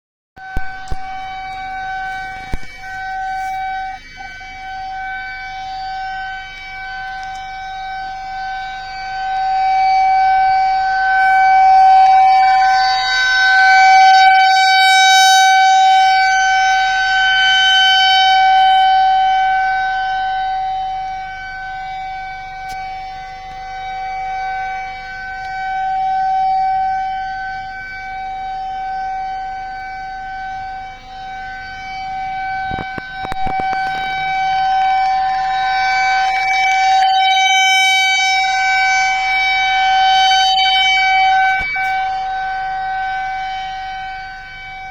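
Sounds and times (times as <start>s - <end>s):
outdoor warning siren: 0.4s - 44.9s.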